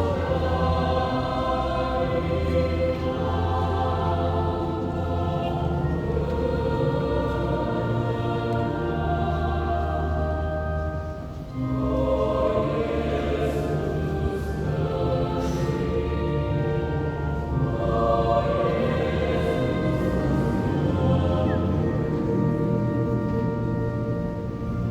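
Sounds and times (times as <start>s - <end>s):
choir singing in harmony: 0.0s - 24.9s.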